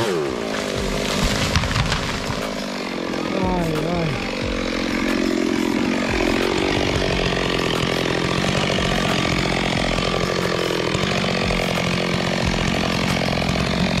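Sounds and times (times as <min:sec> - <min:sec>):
chainsaw cutting: 0:00.0 - 0:14.0.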